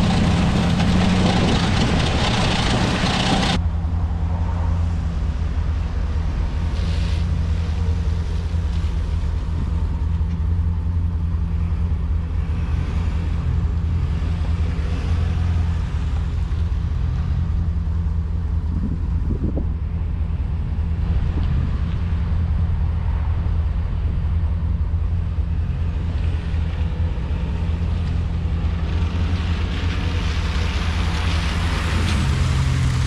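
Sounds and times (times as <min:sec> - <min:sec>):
pickup engine droning: 0:00.0 - 0:33.0.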